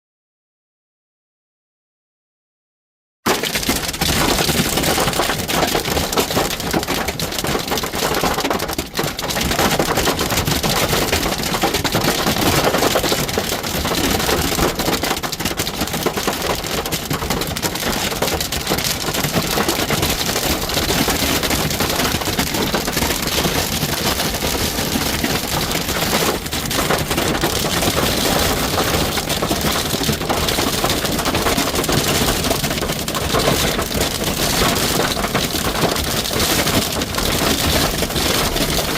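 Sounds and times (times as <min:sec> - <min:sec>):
hail clattering on truck roof: 0:03.3 - 0:38.9
heavy rain on truck roof: 0:03.3 - 0:38.9.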